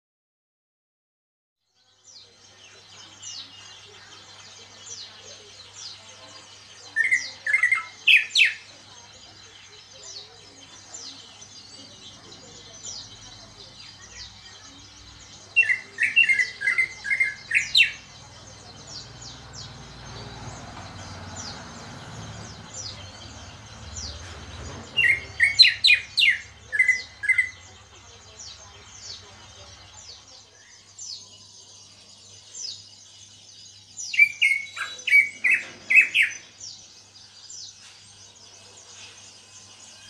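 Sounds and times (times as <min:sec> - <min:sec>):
bird singing whistled notes: 0:01.8 - 0:40.0.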